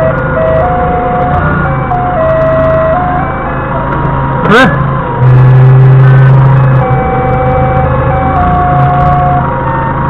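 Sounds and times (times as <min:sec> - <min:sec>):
electronic melody of held tones: 0:00.0 - 0:03.8, 0:05.2 - 0:09.8
forklift engine running: 0:00.0 - 0:10.0.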